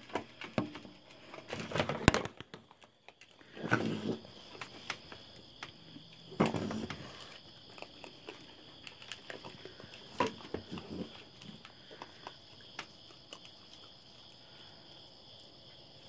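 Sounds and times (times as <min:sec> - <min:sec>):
raccoons chewing food: 0:00.0 - 0:16.0
high insect trill: 0:02.8 - 0:16.0.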